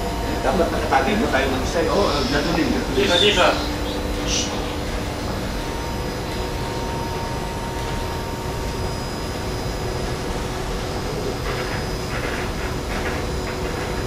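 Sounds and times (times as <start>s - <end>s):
faint constant hums: 0.0s - 14.0s
ship machinery drone: 0.0s - 14.0s.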